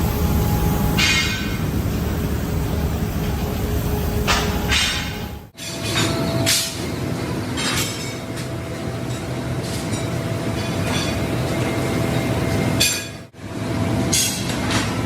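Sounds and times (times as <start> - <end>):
factory machinery din: 0.0 - 15.0.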